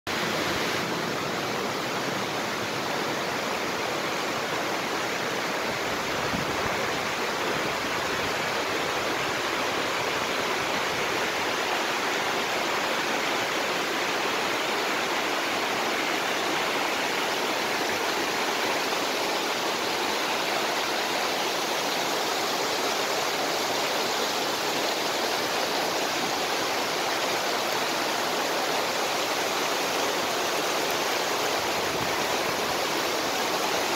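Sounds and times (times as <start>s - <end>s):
creek rushing over rocks: 0.1s - 33.9s.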